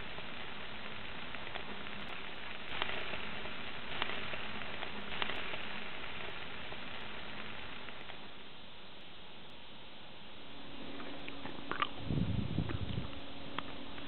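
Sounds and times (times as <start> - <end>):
peppers sizzling on a grill: 0.0 - 14.0.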